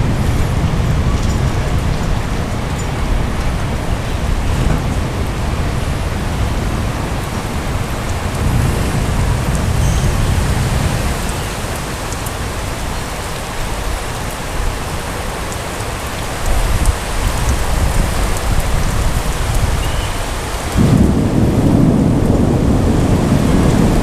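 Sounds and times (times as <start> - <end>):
thunder rumbling: 0.0 - 14.3, 16.6 - 24.0
heavy rain falling: 0.0 - 24.0.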